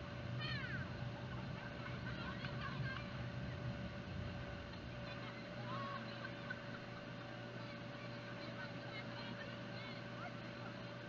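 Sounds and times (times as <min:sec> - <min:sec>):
faint distant voices: 0:00.0 - 0:11.0
motor hum with whine: 0:00.0 - 0:11.0.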